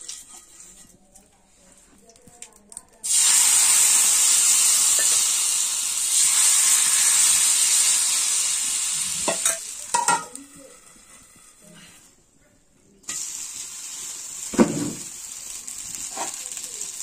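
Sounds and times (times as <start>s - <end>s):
batter sizzling on hot pan: 2.4s - 12.0s, 13.0s - 17.0s.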